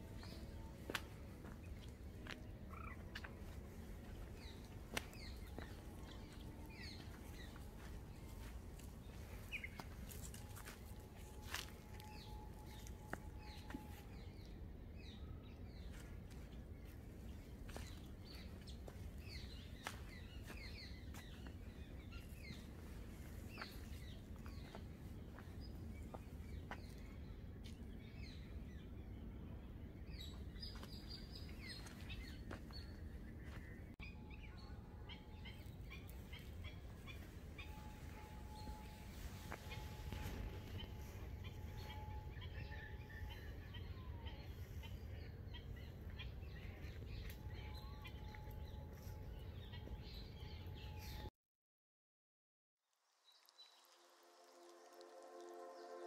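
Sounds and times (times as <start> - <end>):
small birds chirping: 0.0 - 51.3.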